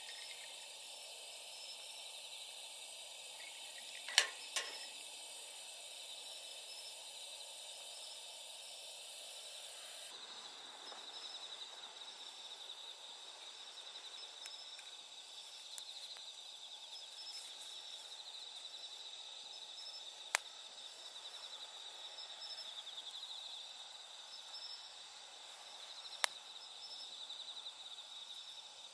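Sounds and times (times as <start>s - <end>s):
night insects trilling: 0.0s - 28.9s.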